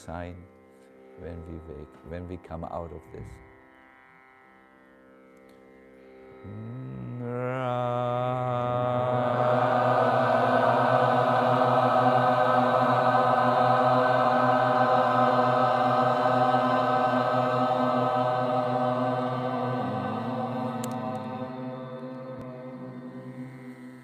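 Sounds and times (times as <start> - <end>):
man chanting a long tone: 0.0 - 0.5, 1.2 - 3.6, 6.4 - 24.0.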